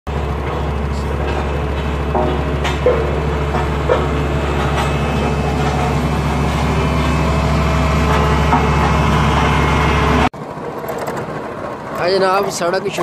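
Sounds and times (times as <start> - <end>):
diesel engine low drone: 0.1 - 13.0.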